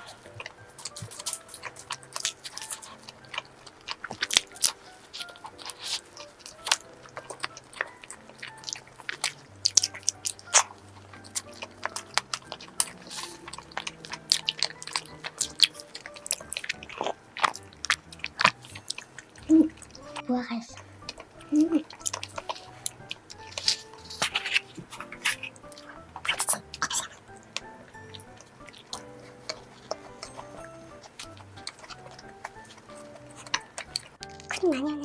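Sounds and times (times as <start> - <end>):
wet mouth clicks: 0.0 - 34.9
close-miked biting and chewing: 0.0 - 35.0
quiet background music: 0.0 - 35.0.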